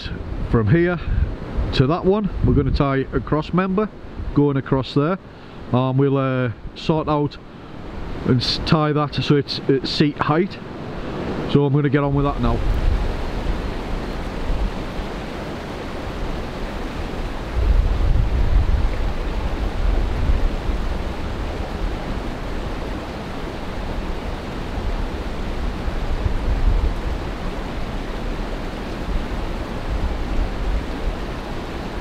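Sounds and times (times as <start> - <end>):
wind buffeting microphone: 0.0 - 4.8, 10.6 - 32.0.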